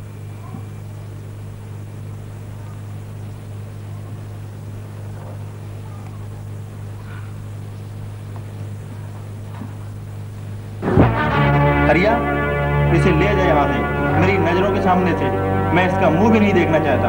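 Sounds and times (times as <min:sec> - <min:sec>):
low electrical hum: 0:00.0 - 0:17.0
tape hiss: 0:00.0 - 0:17.0.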